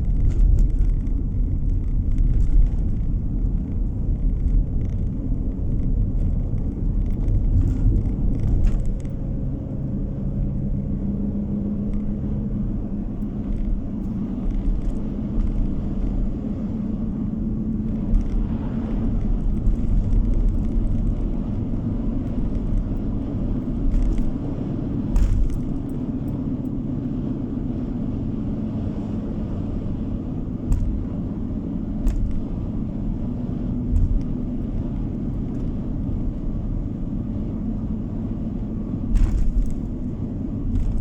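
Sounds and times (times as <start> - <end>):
car tyre and engine rumble: 0.0 - 41.0.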